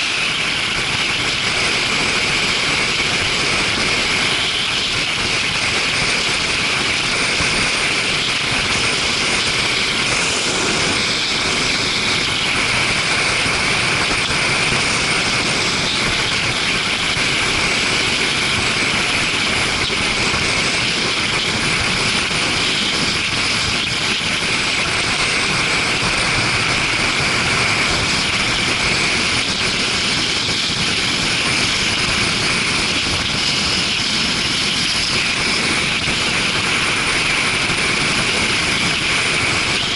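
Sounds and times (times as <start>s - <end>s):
motorcycle engine: 0.0s - 39.9s
wind on microphone: 0.0s - 39.9s.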